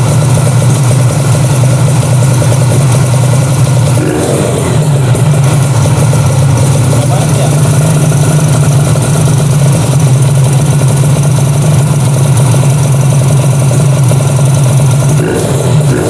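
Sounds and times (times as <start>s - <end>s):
two-stroke motorcycle engine idling: 0.0s - 16.0s.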